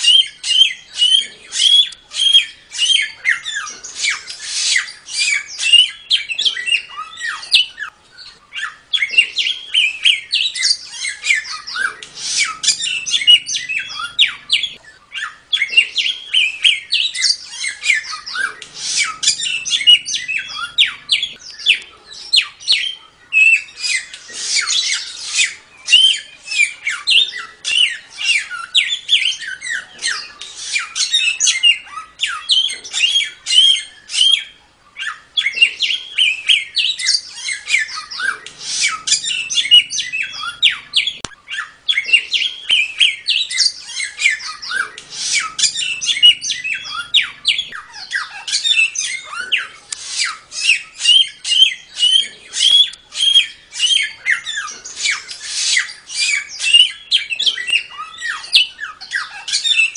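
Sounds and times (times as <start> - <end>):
songbird chirping and trilling: 0.0 - 59.9.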